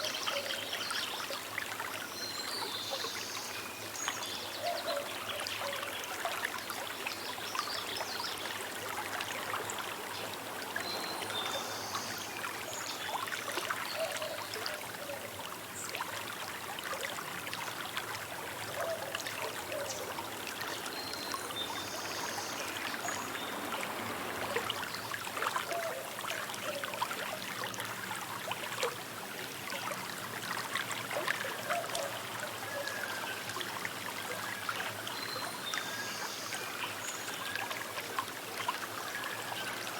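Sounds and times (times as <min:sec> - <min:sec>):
river babbling over stones: 0:00.9 - 0:39.9.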